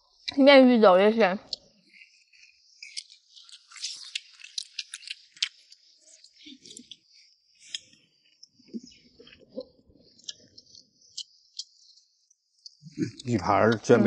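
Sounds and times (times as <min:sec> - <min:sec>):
person chewing close to microphone: 0:01.4 - 0:11.8, 0:12.6 - 0:14.0.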